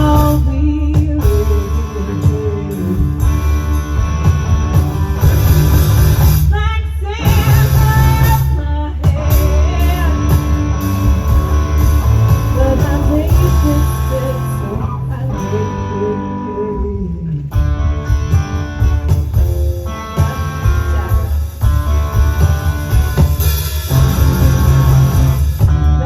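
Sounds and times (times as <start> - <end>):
electric guitar: 0.0 - 26.0
heavy low bass: 0.0 - 26.0.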